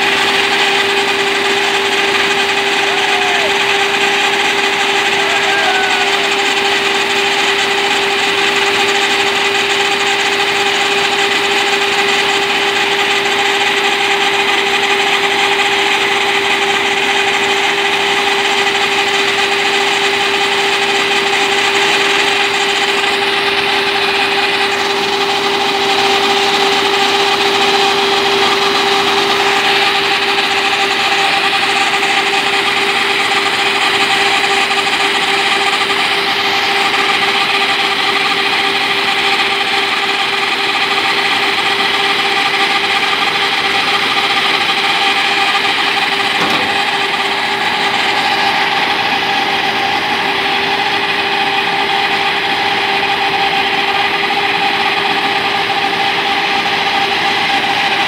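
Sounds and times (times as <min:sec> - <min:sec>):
combine harvester droning: 0:00.0 - 0:58.0.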